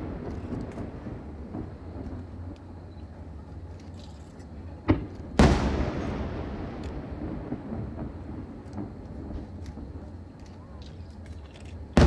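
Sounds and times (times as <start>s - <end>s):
fireworks bursting: 0.0s - 3.8s, 4.4s - 12.0s
low rumble: 0.0s - 12.0s.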